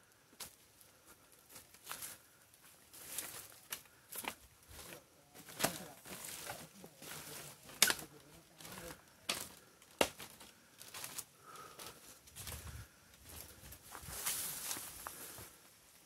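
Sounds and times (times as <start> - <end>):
footsteps on leafy dirt trail: 0.2 - 16.0.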